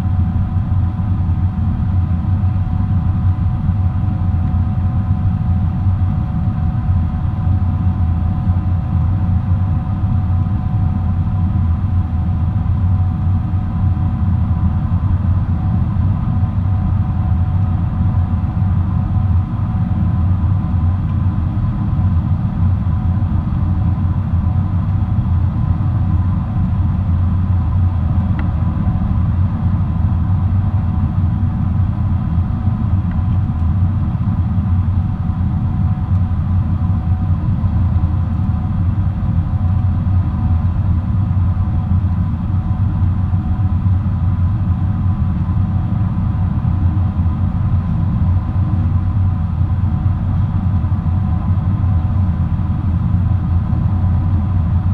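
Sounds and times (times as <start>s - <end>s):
airliner engine drone in cabin: 0.0s - 54.9s
faint steady whine: 0.0s - 54.9s.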